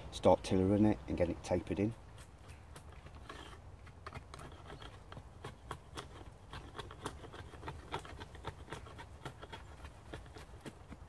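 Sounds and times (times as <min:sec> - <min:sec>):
knife scraping wood: 0:02.1 - 0:11.0.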